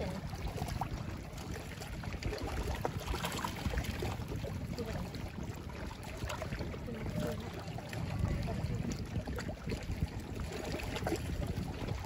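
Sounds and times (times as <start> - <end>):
water lapping: 0.0 - 12.0
wind rumble: 0.0 - 12.0.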